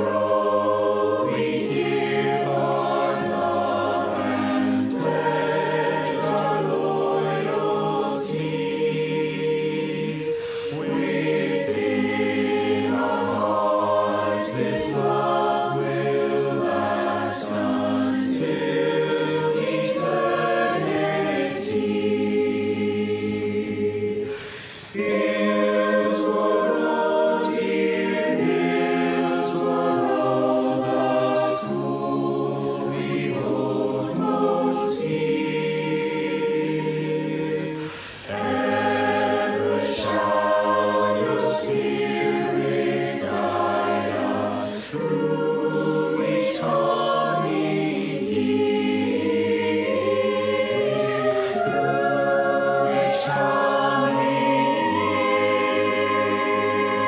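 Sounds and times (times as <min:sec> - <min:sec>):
mixed choir singing chords: 0:00.0 - 0:57.0.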